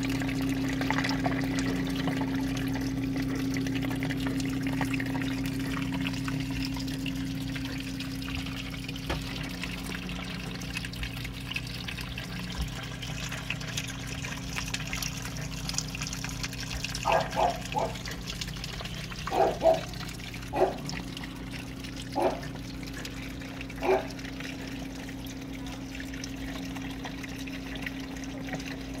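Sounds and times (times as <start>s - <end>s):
pump humming: 0.0s - 29.0s
water trickling: 0.0s - 29.0s.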